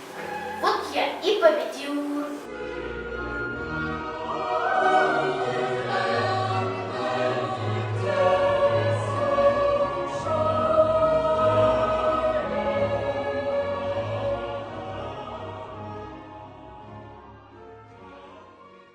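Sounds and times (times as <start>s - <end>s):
sustained choral voices: 0.0s - 0.9s, 1.7s - 18.8s.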